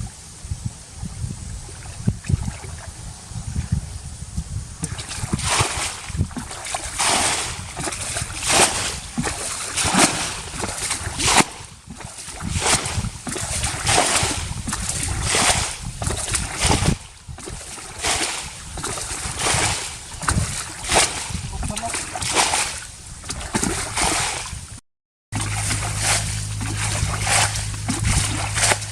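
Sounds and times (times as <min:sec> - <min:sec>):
water splashing and sloshing: 0:01.1 - 0:03.7, 0:04.8 - 0:28.9.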